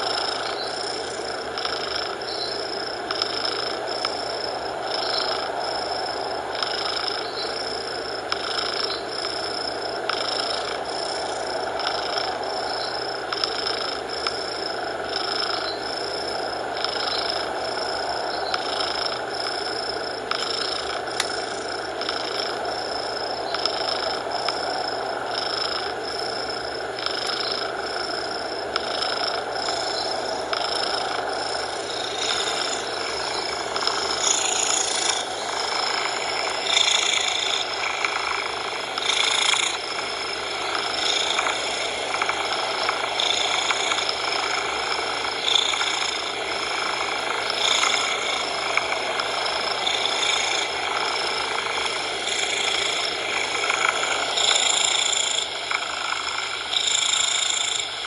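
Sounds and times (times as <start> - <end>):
cat purring: 0.0 - 57.8
steady hiss: 0.0 - 58.0.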